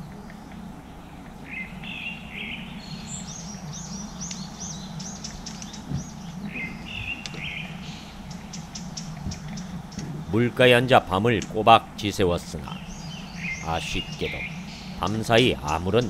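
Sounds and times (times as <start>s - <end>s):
birds singing: 0.0s - 16.0s
low background hum: 0.0s - 16.0s.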